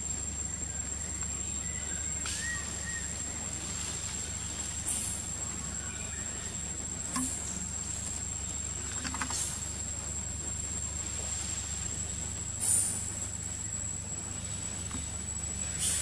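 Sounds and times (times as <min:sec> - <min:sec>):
insects droning: 0:00.0 - 0:16.0
low background hum: 0:00.0 - 0:16.0.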